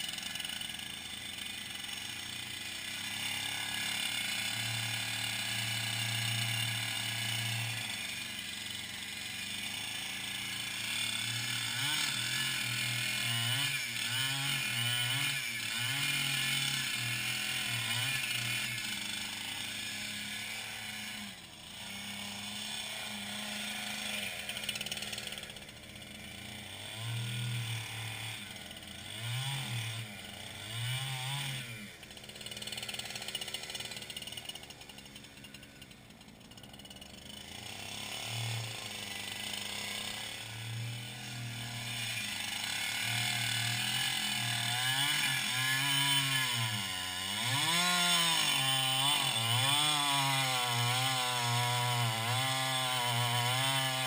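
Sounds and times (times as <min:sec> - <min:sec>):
ice auger engine drilling: 0:00.0 - 0:54.0.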